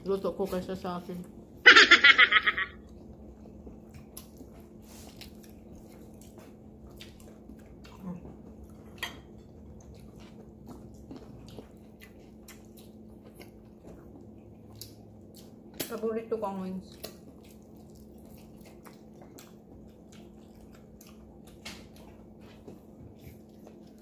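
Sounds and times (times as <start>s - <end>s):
steady low hum: 0.0s - 24.0s
chewing and mouth clicks: 2.8s - 16.1s, 16.8s - 24.0s.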